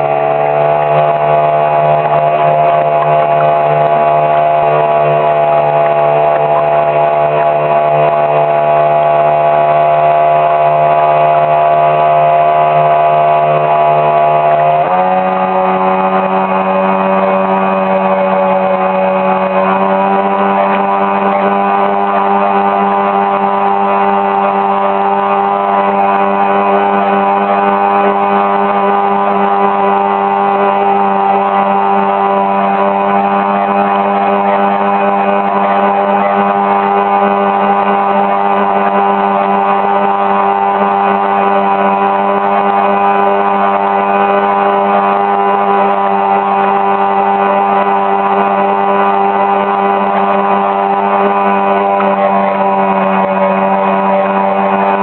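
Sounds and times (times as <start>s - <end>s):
boat motor running steadily: 0.0s - 55.0s.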